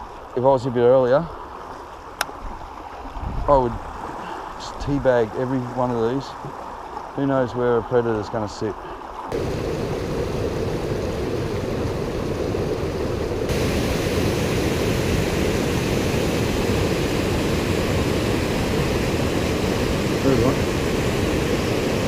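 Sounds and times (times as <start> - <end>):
water rushing over weir: 2.0 - 22.0.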